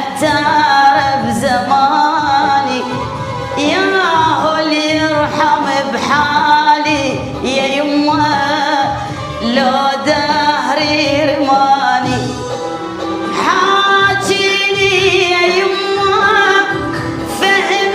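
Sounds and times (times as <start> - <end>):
woman singing: 0.0 - 17.9.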